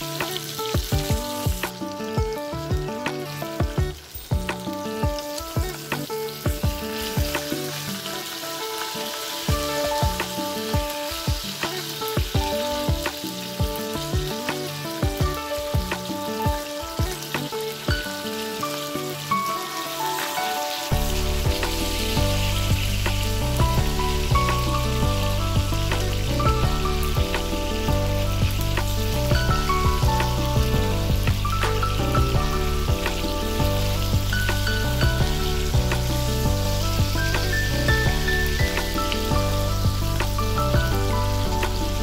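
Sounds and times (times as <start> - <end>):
background music with steady beat: 0.0 - 42.0
fish sizzling in hot oil: 0.0 - 42.0.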